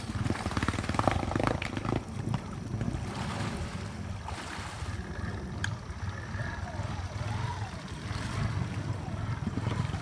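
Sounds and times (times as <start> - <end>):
engine running in water: 0.0 - 10.0
wheels churning and splashing water: 0.0 - 10.0.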